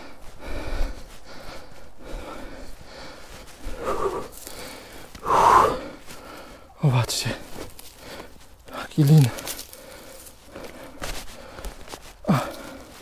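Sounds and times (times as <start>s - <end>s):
man breathing hard: 0.0s - 6.8s, 7.4s - 13.0s.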